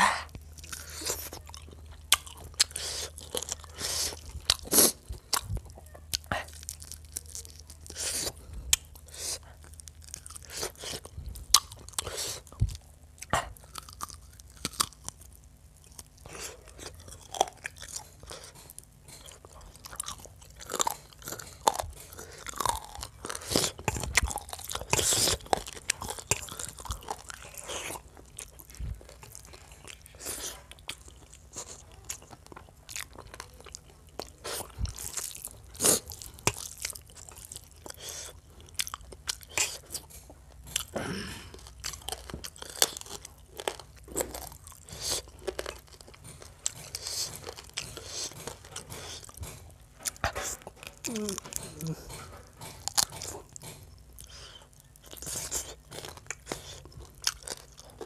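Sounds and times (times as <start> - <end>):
man chewing food: 0.0 - 58.0
crunchy chewing clicks: 0.3 - 58.0.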